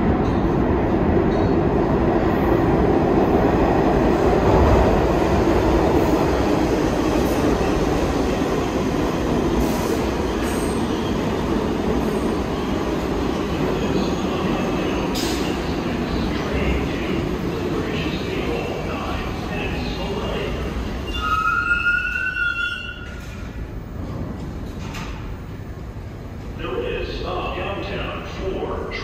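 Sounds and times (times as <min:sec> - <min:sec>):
subway train wheels on rails: 0:00.0 - 0:29.0.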